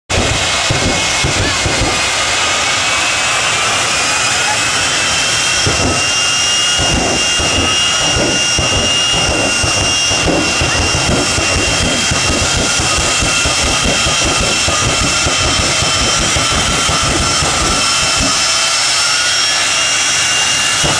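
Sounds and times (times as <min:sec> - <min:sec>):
jet engine rushing and whining: 0:00.1 - 0:20.9.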